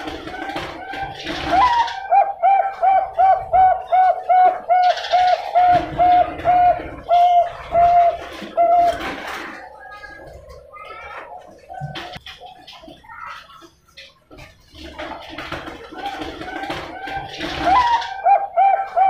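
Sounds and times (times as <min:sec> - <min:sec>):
dove cooing: 0:00.0 - 0:12.8, 0:14.8 - 0:19.0.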